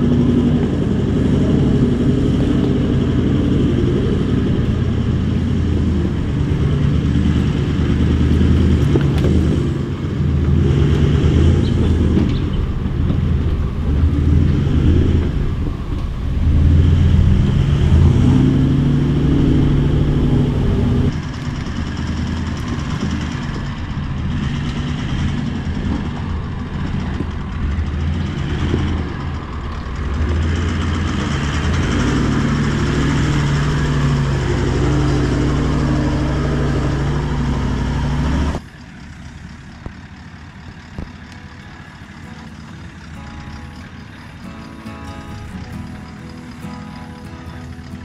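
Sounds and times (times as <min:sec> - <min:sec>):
distant engine: 0:00.0 - 0:48.0
off-road vehicle engine working hard: 0:00.0 - 0:48.0.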